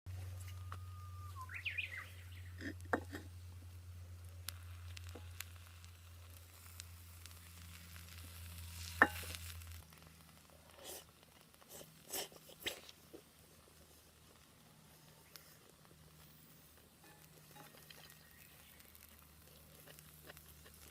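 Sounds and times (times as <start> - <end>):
noodles sizzling in a skillet: 1.4 - 20.9.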